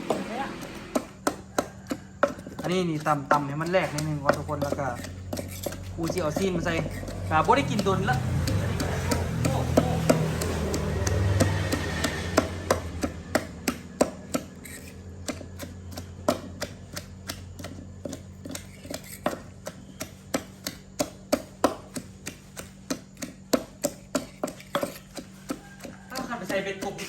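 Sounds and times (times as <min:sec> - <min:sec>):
pestle pounding in a mortar: 0:00.0 - 0:27.0.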